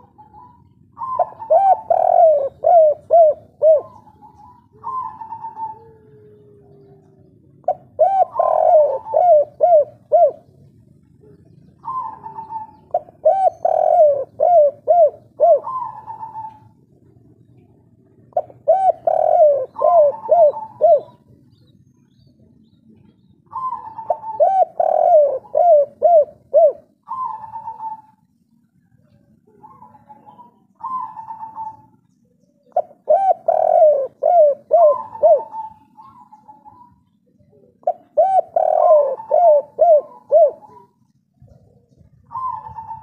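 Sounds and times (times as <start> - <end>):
dove cooing: 0.0 - 21.7, 22.3 - 43.0.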